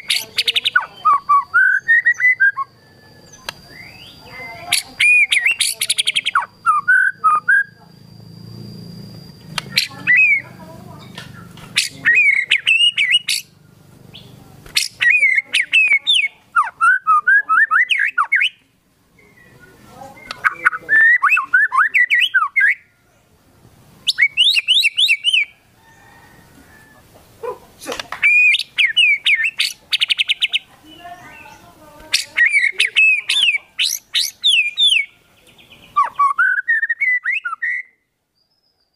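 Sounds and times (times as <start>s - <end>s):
bird song whistles and trills: 0.0s - 23.0s, 24.0s - 26.2s, 27.4s - 38.9s.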